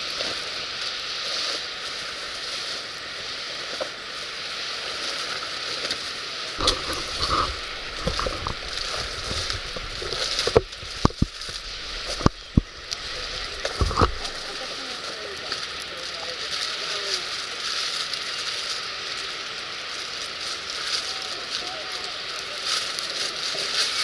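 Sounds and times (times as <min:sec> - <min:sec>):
fire hissing and crackling: 0:00.0 - 0:24.0.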